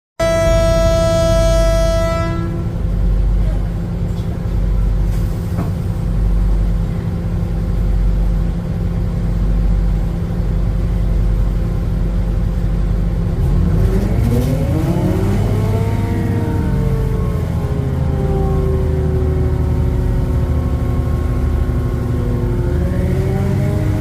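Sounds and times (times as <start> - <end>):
railcar diesel engine running: 0.2 - 24.0.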